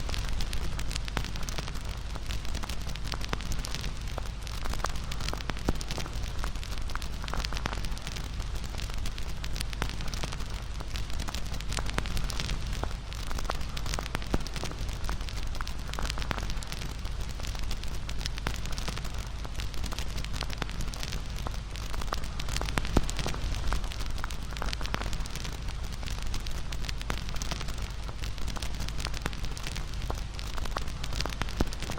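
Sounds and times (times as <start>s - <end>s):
fire low rumble: 0.0s - 31.9s
wood fire crackling and popping: 0.0s - 31.9s.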